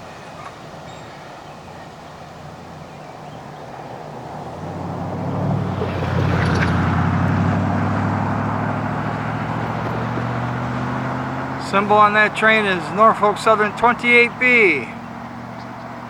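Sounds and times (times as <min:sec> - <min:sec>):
diesel locomotives passing: 0:00.0 - 0:16.0.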